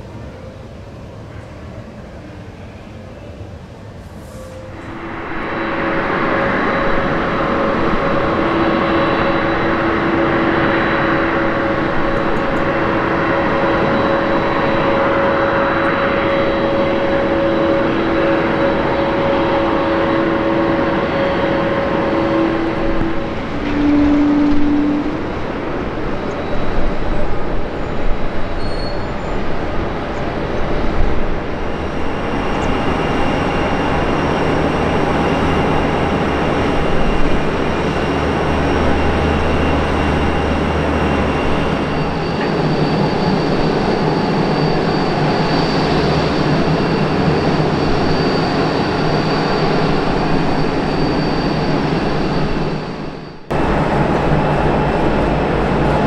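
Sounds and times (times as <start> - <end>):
jet engines roaring: 3.5 - 56.0.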